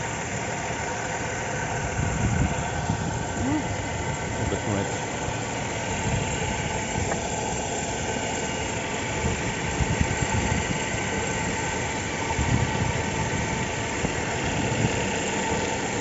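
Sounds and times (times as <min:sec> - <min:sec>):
engine knocking and crackling: 0:00.0 - 0:16.0.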